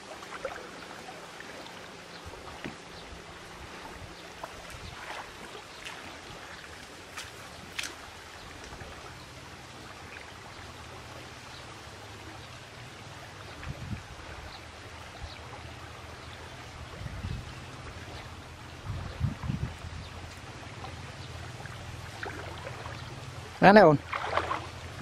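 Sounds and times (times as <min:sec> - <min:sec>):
river water rippling and sloshing: 0:00.0 - 0:25.0.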